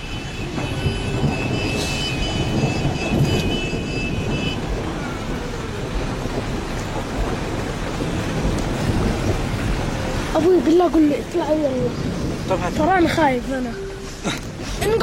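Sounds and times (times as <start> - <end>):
vehicle rumble in motion: 0.0 - 15.0.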